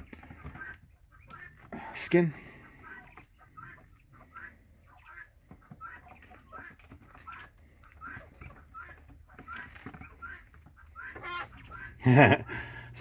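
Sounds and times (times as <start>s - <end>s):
quail peeps: 0.0s - 13.0s.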